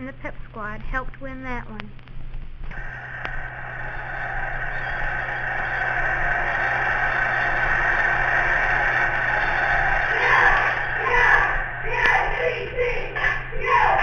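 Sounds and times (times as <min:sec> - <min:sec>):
crowd cheering: 0:02.7 - 0:14.0.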